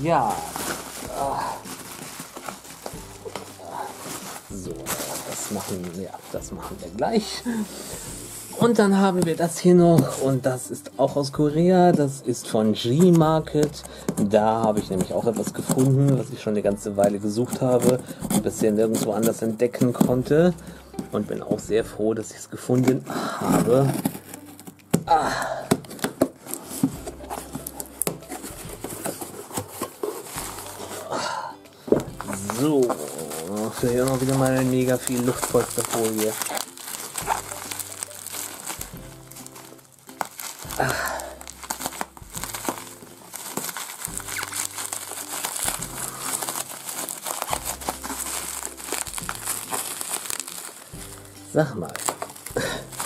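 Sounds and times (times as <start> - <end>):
cardboard scraping and rustling: 0.0 - 10.4, 11.8 - 20.4, 22.6 - 25.1, 25.8 - 31.1, 31.9 - 40.8, 41.4 - 51.3
bubble wrap crinkling: 0.0 - 53.0.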